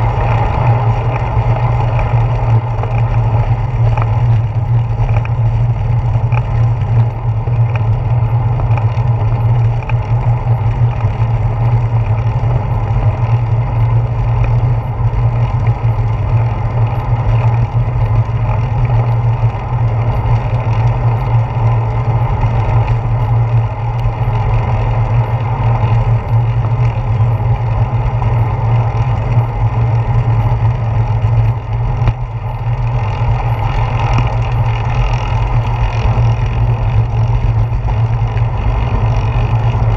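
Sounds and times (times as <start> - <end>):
road vibration: 0.0 - 39.9
wind rumble: 0.0 - 39.9.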